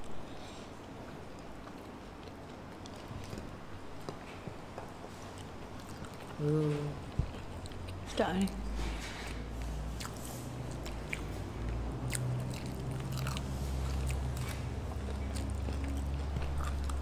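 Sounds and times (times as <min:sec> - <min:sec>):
steady low hum: 0:00.0 - 0:17.0
chewing and biting: 0:01.0 - 0:17.0.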